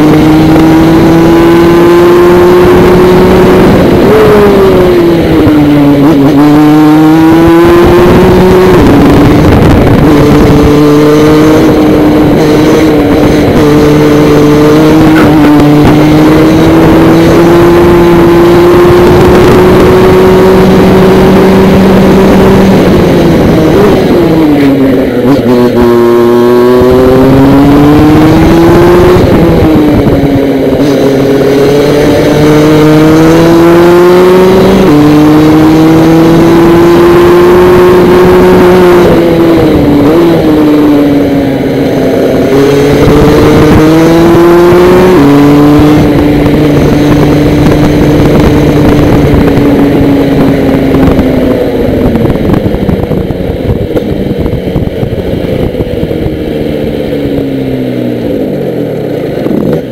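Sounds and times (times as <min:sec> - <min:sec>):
kart engine at racing speed: 0:00.0 - 0:59.9.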